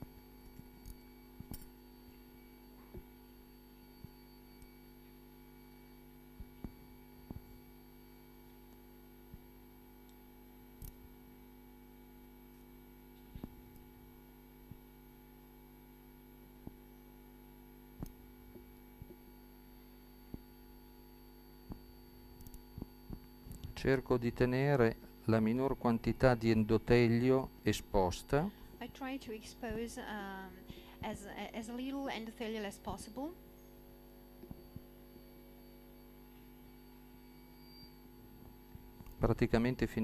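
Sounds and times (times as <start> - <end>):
faint mains hum: 0.0 - 40.0.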